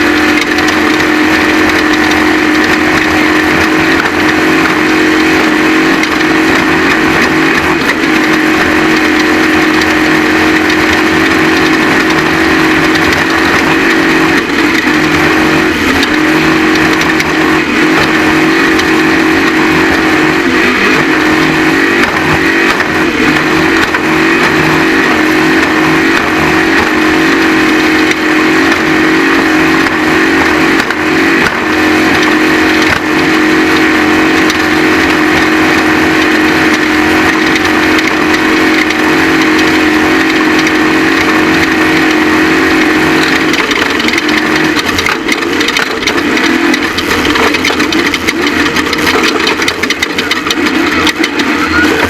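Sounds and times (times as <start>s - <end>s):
race vehicle engine revving high: 0.0s - 52.0s.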